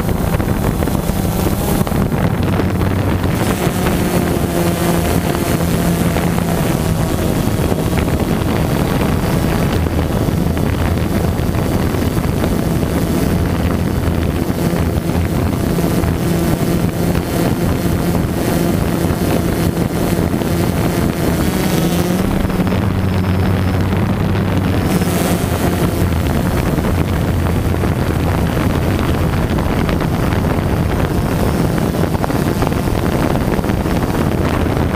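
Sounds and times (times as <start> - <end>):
drone propellers humming: 0.0 - 34.9
wind on microphone: 0.0 - 34.9.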